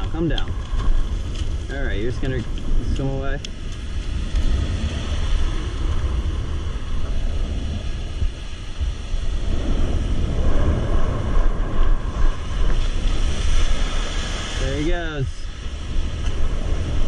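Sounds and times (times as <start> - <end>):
surf washing on a beach: 0.0 - 17.0
wind buffeting microphone: 0.0 - 17.0.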